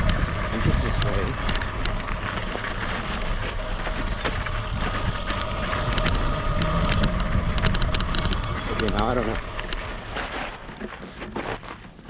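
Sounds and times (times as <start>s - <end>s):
wind buffeting microphone: 0.0s - 10.9s
dirt bike engine running: 0.0s - 12.0s.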